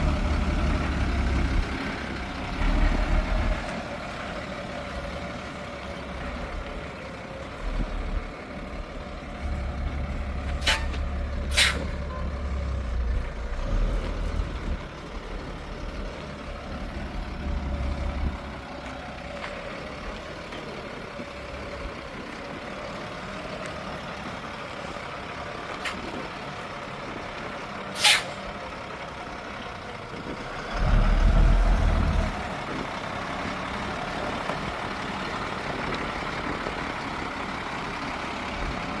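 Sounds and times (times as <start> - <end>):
truck engine humming: 0.0 - 39.0.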